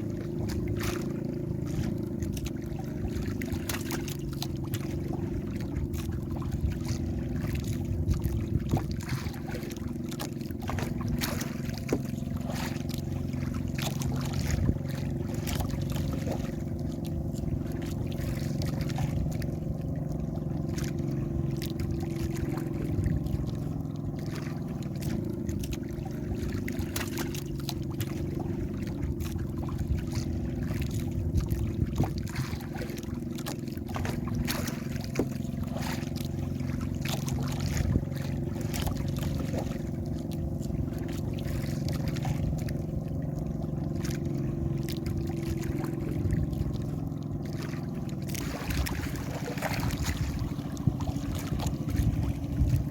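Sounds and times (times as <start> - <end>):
boat engine running: 0.0 - 52.9
water splashing against hull: 0.0 - 52.9.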